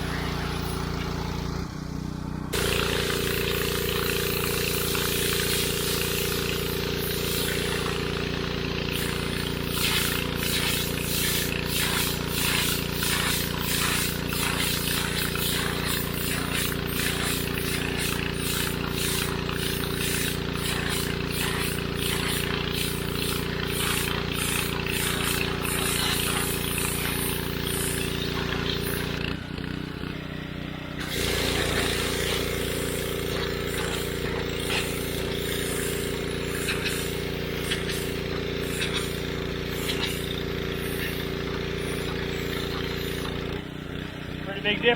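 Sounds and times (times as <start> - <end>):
water spray hissing: 0.0 - 1.7, 2.5 - 29.3, 31.0 - 43.6
engine humming: 0.0 - 44.9.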